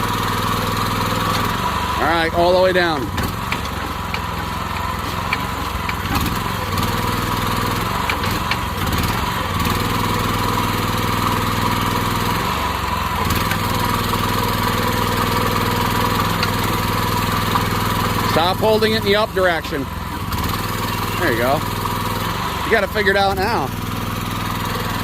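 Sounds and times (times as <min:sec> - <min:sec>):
hydraulic pump whine: 0:00.0 - 0:25.0
small gas engine running: 0:00.0 - 0:25.0.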